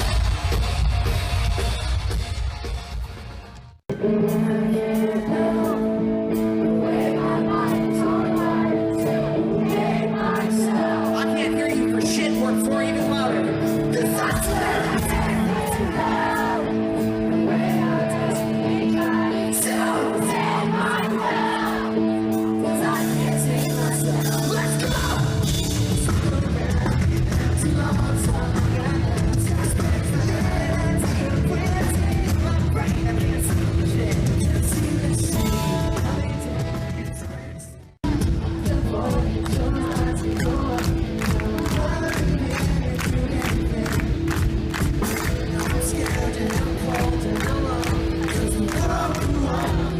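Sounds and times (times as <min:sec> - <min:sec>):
live rock music: 0:00.0 - 0:49.9
person singing: 0:03.9 - 0:49.9.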